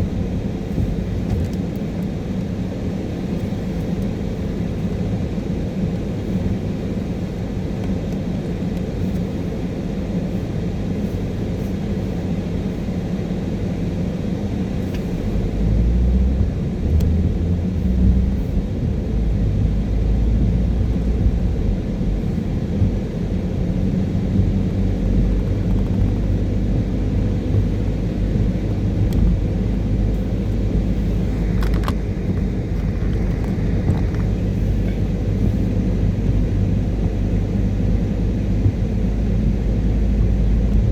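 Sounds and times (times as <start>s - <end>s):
car driving on wet road: 0.0s - 40.9s.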